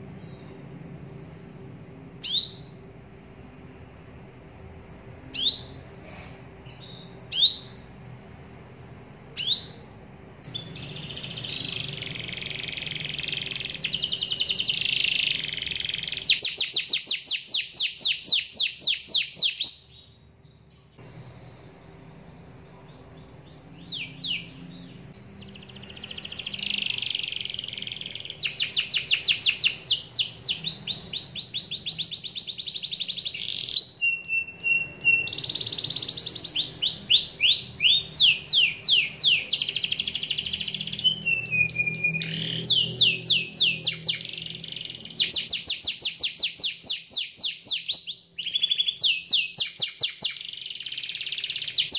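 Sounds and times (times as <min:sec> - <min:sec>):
canary singing: 0:00.0 - 0:01.1, 0:02.1 - 0:03.8, 0:04.7 - 0:08.4, 0:09.2 - 0:51.9.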